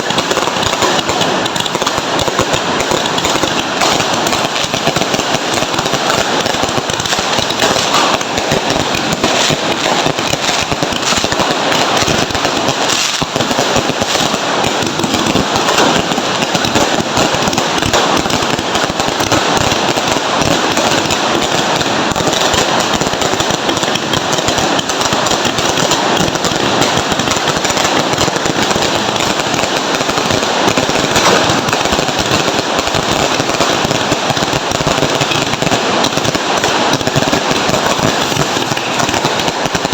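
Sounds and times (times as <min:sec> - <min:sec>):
firecrackers crackling and popping: 0:00.0 - 0:39.9.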